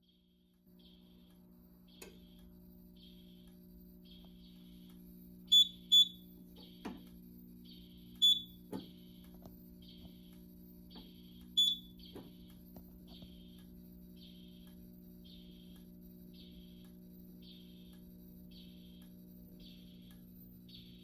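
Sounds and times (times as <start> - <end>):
steady electrical hum: 0.0 - 21.0
high-pitched electronic beeps: 0.8 - 6.8, 7.6 - 8.6, 9.4 - 21.0.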